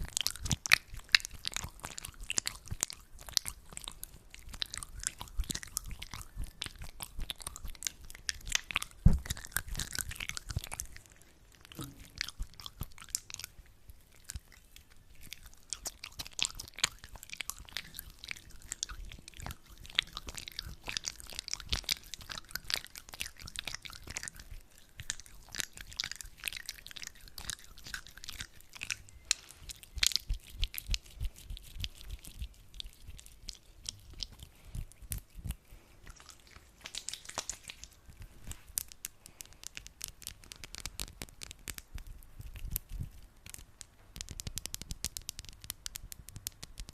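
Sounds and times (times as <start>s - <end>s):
hands squishing sticky gel: 0.0s - 46.9s.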